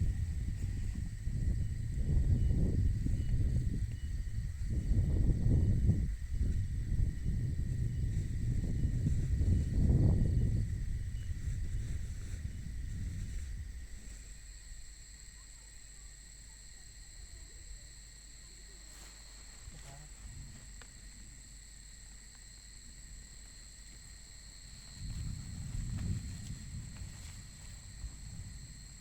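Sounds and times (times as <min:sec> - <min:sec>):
wind rumbling on microphone: 0:00.0 - 0:15.3, 0:16.6 - 0:29.0
night insects chirring: 0:00.0 - 0:29.0.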